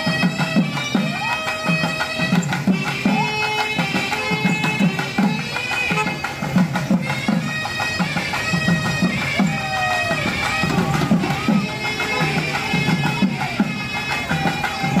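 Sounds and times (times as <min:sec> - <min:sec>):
driving drum beat: 0:00.0 - 0:15.0
reedy wind instrument: 0:00.0 - 0:15.0.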